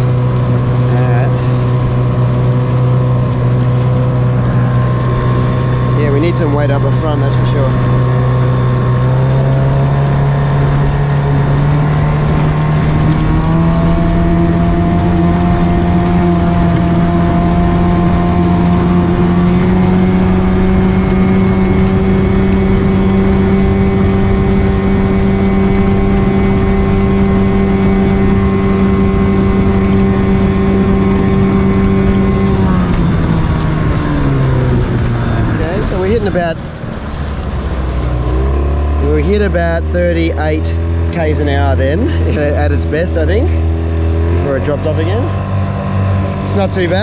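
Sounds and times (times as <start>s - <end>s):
outboard motor running: 0.0s - 47.0s
water noise: 0.0s - 47.0s
wind noise: 0.0s - 47.0s.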